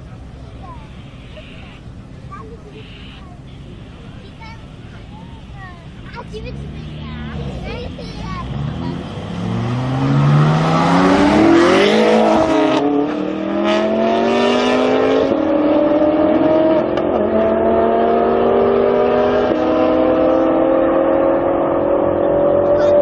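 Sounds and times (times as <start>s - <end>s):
car engine accelerating hard: 4.0s - 23.0s.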